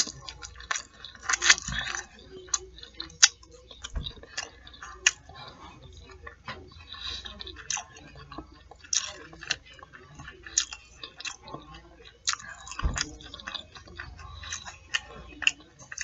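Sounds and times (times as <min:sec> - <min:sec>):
chewing fried food: 0:00.0 - 0:16.0.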